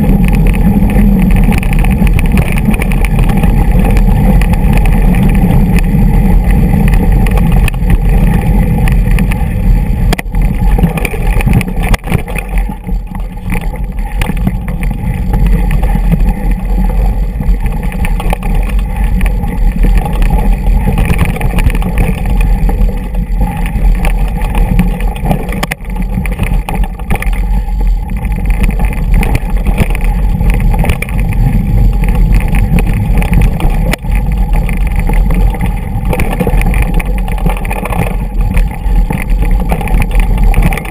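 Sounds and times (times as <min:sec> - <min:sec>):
bike rattling over stones: 0:00.0 - 0:40.9
wind rushing over microphone: 0:00.0 - 0:40.9.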